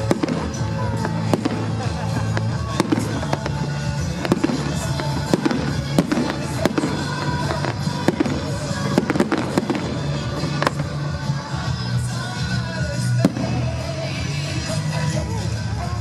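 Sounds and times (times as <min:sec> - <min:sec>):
fireworks bangs: 0:00.0 - 0:15.1.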